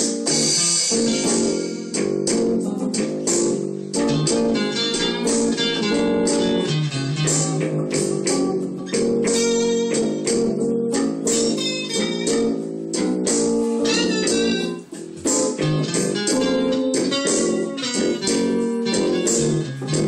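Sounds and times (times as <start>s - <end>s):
electric guitars playing blues: 0.0s - 20.0s
sharp rhythmic hits: 0.0s - 20.0s.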